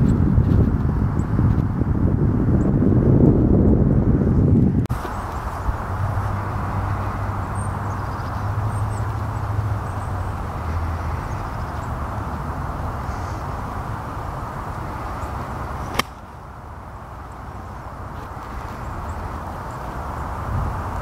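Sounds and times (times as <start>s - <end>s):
low engine-like hum: 2.5s - 21.0s.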